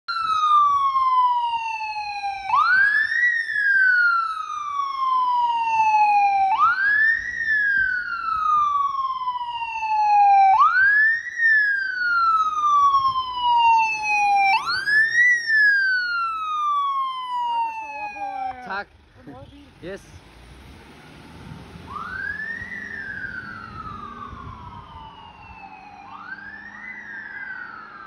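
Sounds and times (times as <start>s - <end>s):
ambulance siren wailing: 0.1s - 18.9s, 21.0s - 28.0s.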